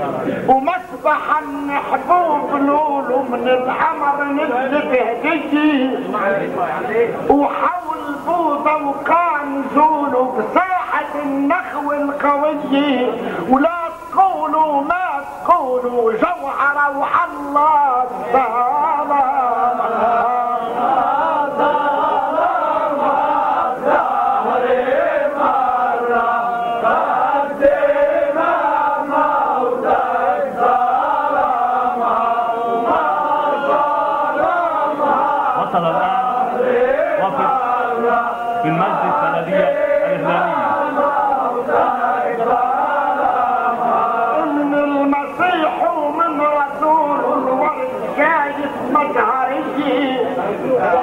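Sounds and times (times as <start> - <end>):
men chanting in unison: 0.0 - 51.0.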